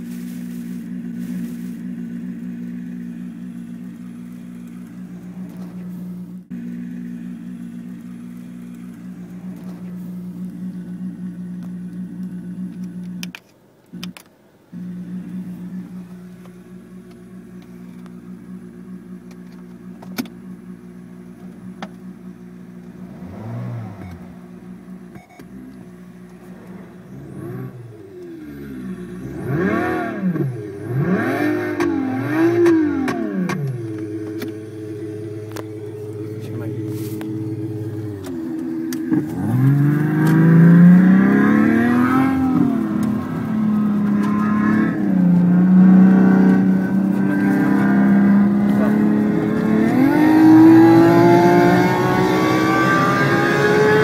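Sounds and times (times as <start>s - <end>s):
synthetic engine sound through car stereo: 0.0s - 54.0s.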